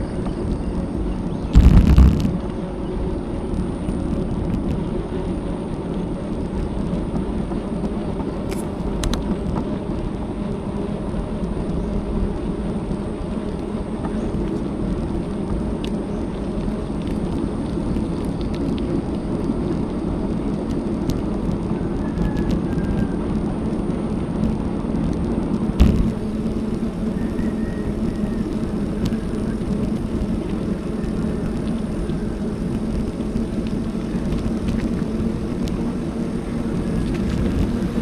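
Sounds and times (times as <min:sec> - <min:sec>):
bicycle road rumble: 0:00.0 - 0:38.0
wind rush: 0:00.0 - 0:38.0.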